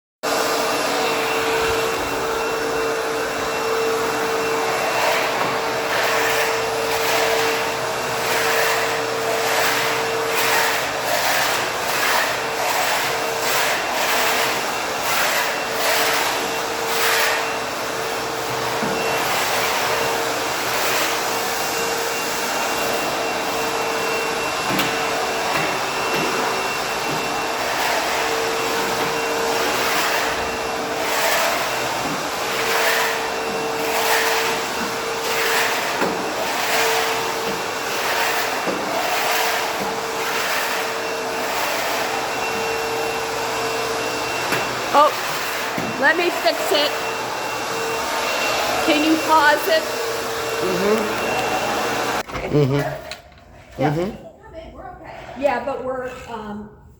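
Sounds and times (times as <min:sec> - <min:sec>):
vacuum motor whining: 0:00.3 - 0:54.1.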